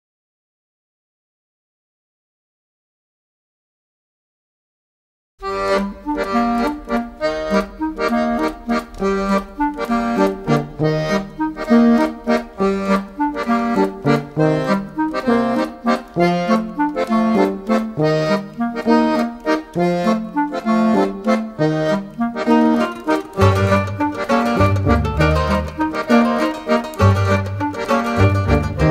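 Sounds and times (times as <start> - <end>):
accordion music: 5.4 - 28.9.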